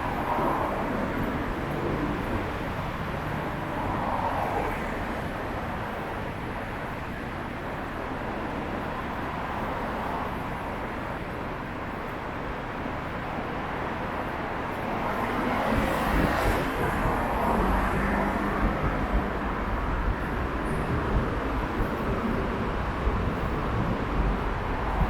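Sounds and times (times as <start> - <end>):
passing traffic: 0.0 - 25.0.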